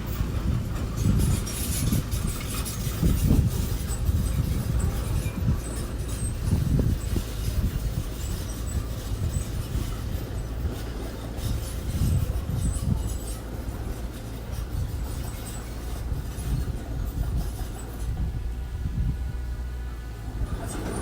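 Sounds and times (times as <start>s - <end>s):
construction machine engine rumbling: 0.0s - 21.0s.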